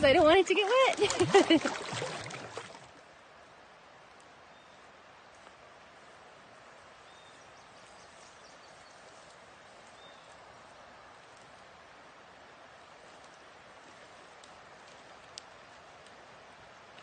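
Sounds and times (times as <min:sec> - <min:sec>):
steady soft hiss: 0:02.5 - 0:17.0.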